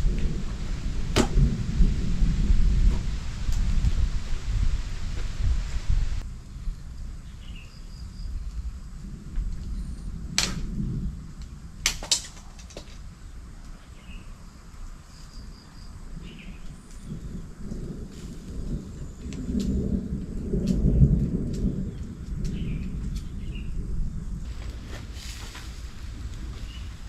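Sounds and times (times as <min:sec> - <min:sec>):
distant thunder rumbling: 0:00.0 - 0:07.4, 0:08.2 - 0:11.8, 0:16.1 - 0:27.0.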